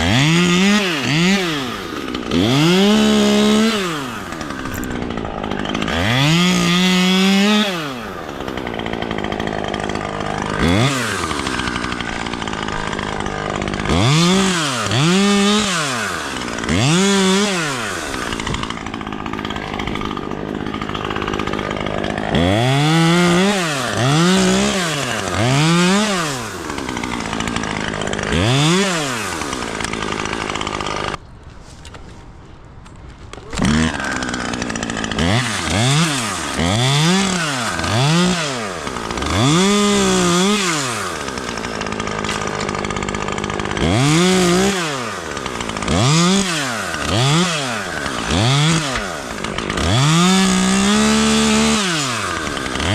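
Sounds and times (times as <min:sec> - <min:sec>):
chainsaw revving and cutting: 0:00.0 - 0:31.2, 0:33.4 - 0:52.9.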